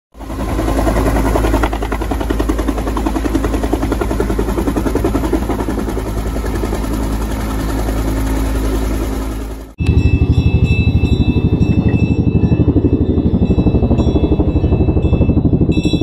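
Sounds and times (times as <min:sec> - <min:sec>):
helicopter rotor beating: 0:00.2 - 0:16.0
low engine drone: 0:00.2 - 0:16.0.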